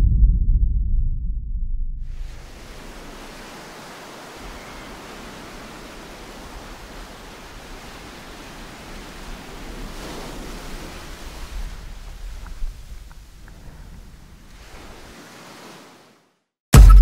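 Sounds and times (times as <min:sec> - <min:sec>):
wind rumble on microphone: 0:00.0 - 0:15.2
waves breaking on a sandy beach: 0:02.2 - 0:16.4.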